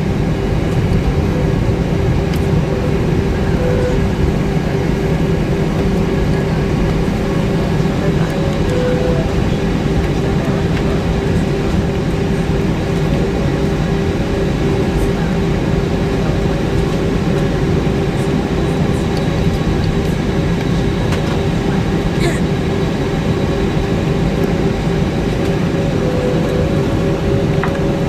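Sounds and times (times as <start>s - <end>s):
airplane cabin hum: 0.0s - 28.0s
jet engine drone: 0.0s - 28.0s.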